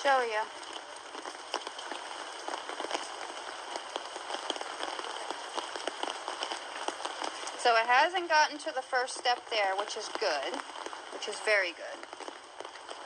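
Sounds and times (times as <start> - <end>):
rain falling: 0.0 - 13.0
raindrops ticking: 0.0 - 13.0.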